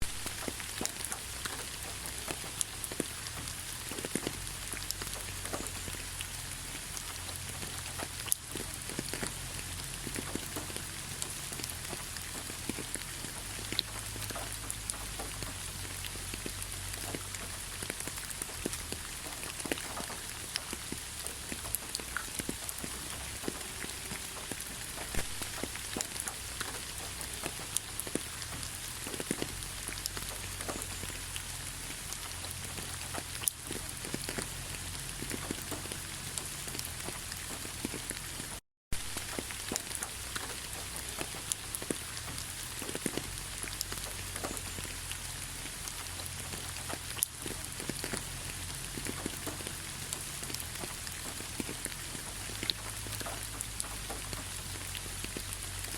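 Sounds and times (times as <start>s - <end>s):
raindrops ticking: 0.0s - 55.9s
steady rainfall hiss: 0.0s - 55.9s.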